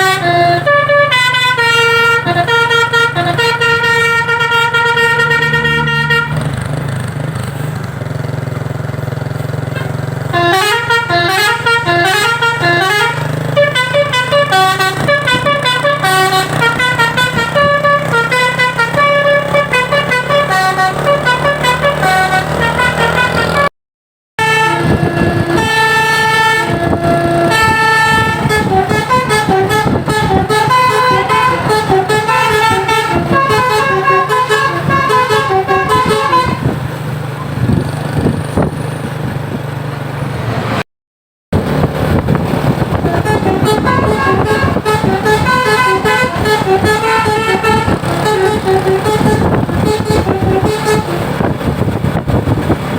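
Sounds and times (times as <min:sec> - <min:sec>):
bus air horns playing melodies: 0:00.0 - 0:06.6, 0:09.3 - 0:23.7, 0:24.4 - 0:37.2, 0:42.1 - 0:52.9
bus engine drone: 0:00.0 - 0:23.7, 0:24.4 - 0:40.9, 0:41.5 - 0:52.9
road noise: 0:00.0 - 0:23.7, 0:24.4 - 0:40.9, 0:41.5 - 0:52.9.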